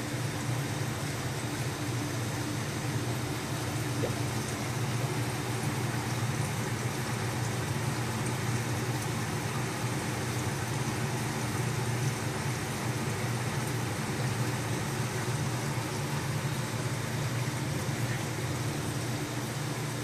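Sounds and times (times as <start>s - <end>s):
aquarium equipment humming: 0.0s - 20.0s.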